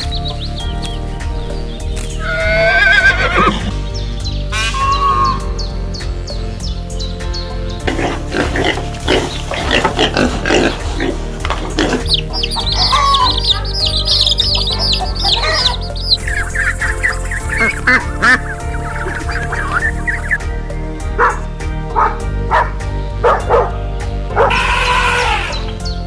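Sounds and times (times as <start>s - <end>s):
high bird chirps: 0.0s - 21.5s
background music: 0.0s - 26.0s.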